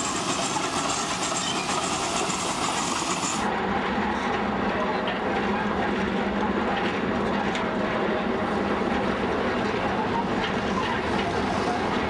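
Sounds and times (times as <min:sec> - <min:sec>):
train rumbling and rattling: 0:00.0 - 0:12.0.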